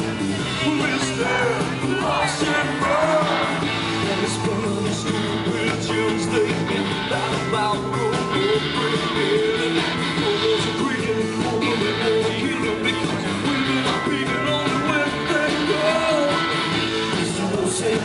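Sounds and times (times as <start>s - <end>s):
person singing: 0.0s - 18.0s
rock band playing: 0.0s - 18.0s.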